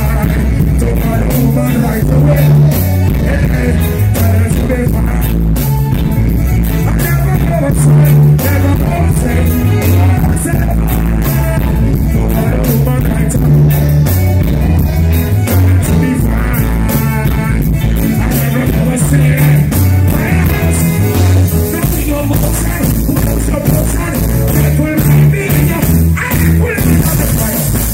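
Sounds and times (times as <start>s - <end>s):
heavy bass line: 0.0s - 27.9s
man singing: 0.0s - 27.9s
reggae band playing: 0.0s - 27.9s.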